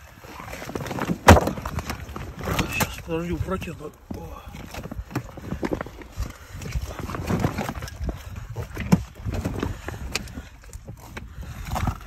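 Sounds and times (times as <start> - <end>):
outdoor gear clattering and rustling: 0.0 - 12.0.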